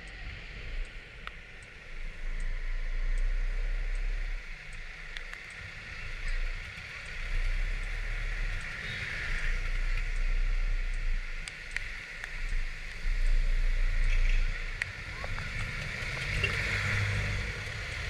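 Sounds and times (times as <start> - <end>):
small ticks: 0.0 - 18.0
wind and engine rumble: 0.0 - 18.0
rain and tyre spray hiss: 0.1 - 18.0.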